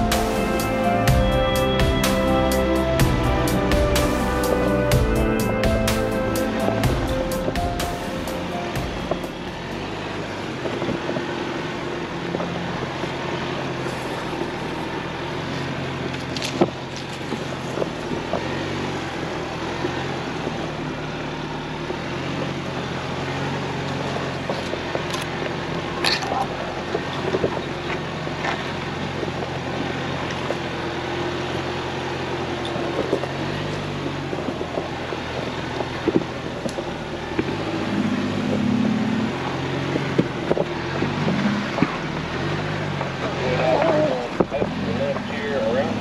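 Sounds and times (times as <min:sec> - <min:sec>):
trail noise: 0:00.0 - 0:46.0
vehicle engine at low speed: 0:00.0 - 0:46.0.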